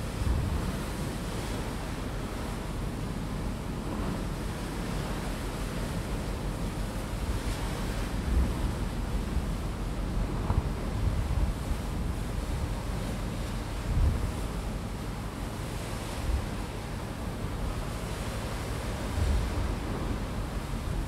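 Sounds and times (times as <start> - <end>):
sea water rushing past ship: 0.0 - 21.0
wind buffeting microphone: 0.1 - 2.0, 3.2 - 14.9, 15.6 - 21.0.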